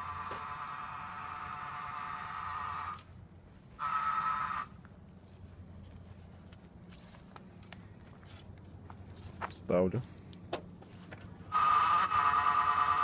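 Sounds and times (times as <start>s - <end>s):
faint hum: 0.0s - 11.6s
high-pitched electrical buzzing whine: 0.0s - 13.0s.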